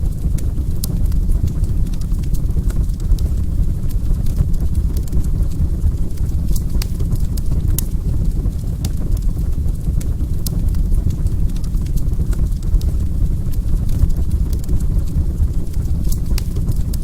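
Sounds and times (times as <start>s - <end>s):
fire pops and snaps: 0.0s - 17.0s
wood fire crackling: 0.0s - 17.0s.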